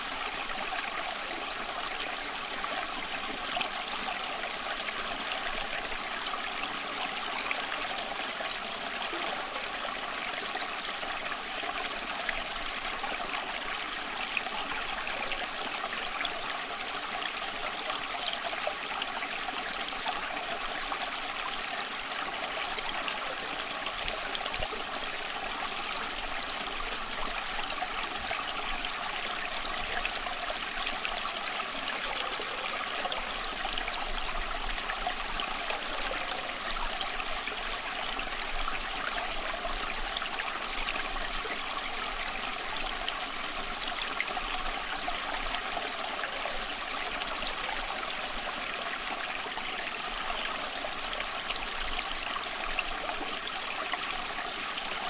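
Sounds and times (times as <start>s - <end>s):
shallow stream flowing: 0.0s - 55.0s.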